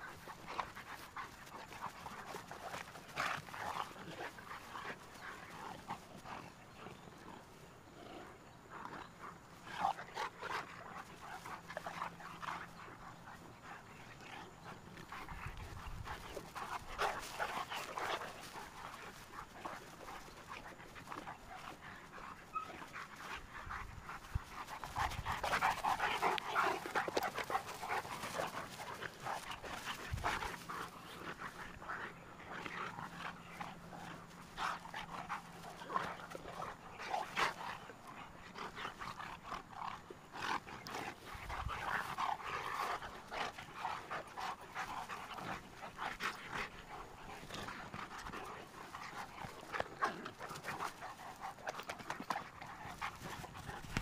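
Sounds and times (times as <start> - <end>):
dogs panting: 0.0 - 54.0.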